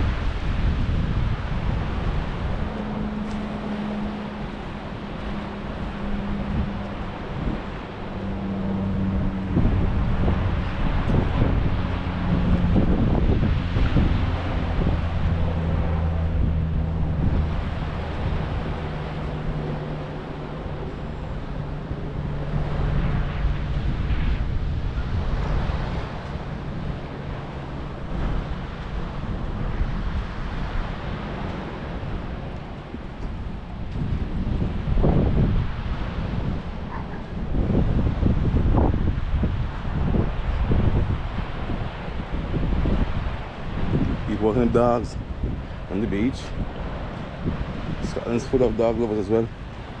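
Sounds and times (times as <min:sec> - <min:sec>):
steady low hum: 0:00.0 - 0:50.0
surf: 0:00.0 - 0:50.0
wind rushing over microphone: 0:00.0 - 0:50.0.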